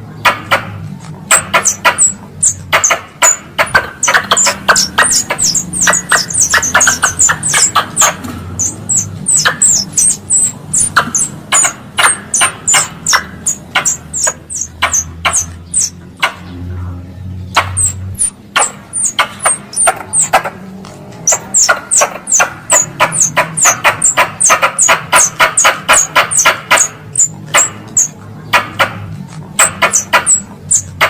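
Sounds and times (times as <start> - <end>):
squirrel calls sharp high chirps: 1.3 - 16.4, 17.5 - 20.4, 21.2 - 28.2, 29.6 - 31.0.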